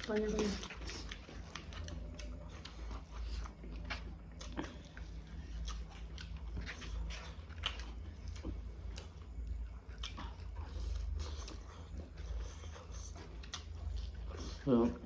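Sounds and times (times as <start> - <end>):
person chewing food: 0.0 - 15.0
steady low hum: 0.0 - 15.0.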